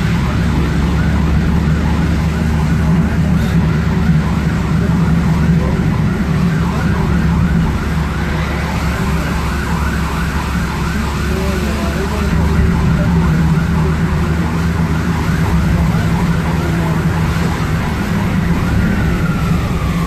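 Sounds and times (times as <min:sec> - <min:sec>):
ambulance siren yelping: 0:00.0 - 0:20.0
car engine and road drone: 0:00.0 - 0:20.0.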